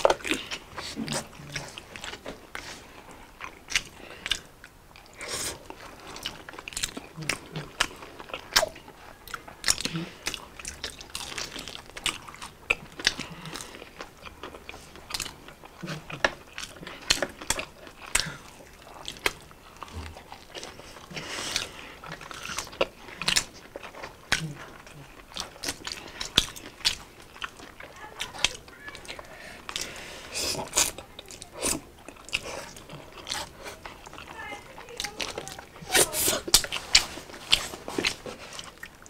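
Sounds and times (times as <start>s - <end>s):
crunchy bites and chewing: 0.0s - 39.0s.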